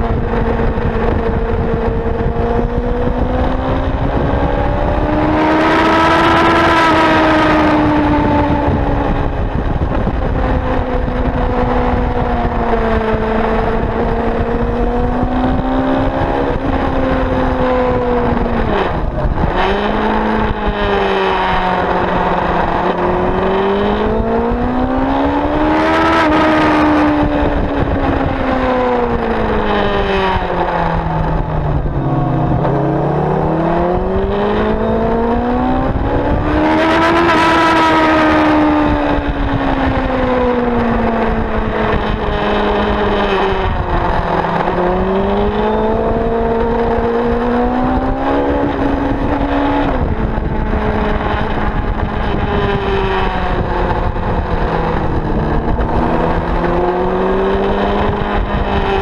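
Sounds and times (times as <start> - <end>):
motorcycle engine at speed: 0.0 - 59.0
wind rushing over microphone: 0.0 - 59.0.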